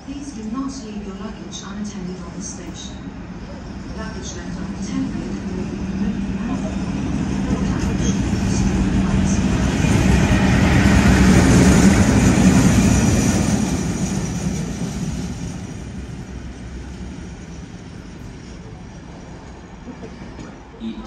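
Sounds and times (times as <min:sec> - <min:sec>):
diesel locomotive passing: 0:00.0 - 0:21.0.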